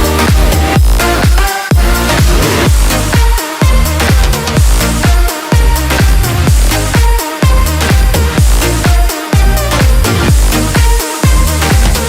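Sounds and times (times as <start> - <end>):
kick drum: 0.0 - 12.0
sustained synth chords: 0.0 - 12.0.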